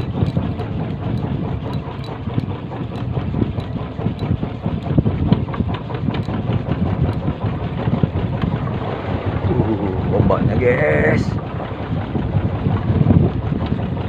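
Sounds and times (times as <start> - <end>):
fishing boat engine running: 0.0 - 14.0
wind buffeting the microphone: 0.0 - 14.0.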